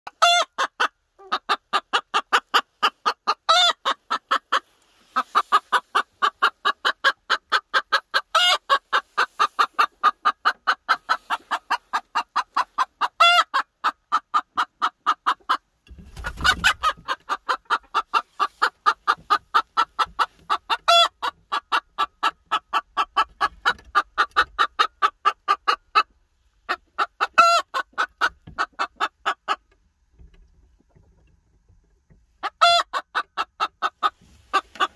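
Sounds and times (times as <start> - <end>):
hen clucking rapidly: 0.1 - 31.4, 32.0 - 34.9.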